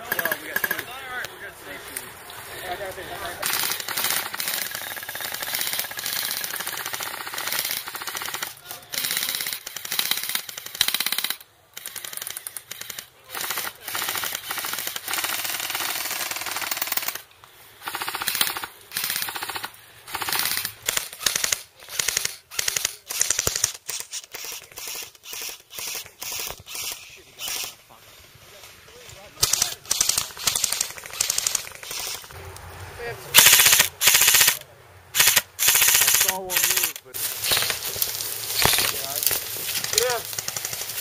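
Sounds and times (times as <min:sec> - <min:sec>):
airsoft guns firing full auto: 0:03.4 - 0:17.2, 0:17.8 - 0:27.8, 0:29.4 - 0:32.4, 0:33.4 - 0:34.6, 0:35.2 - 0:37.8, 0:38.6 - 0:41.0.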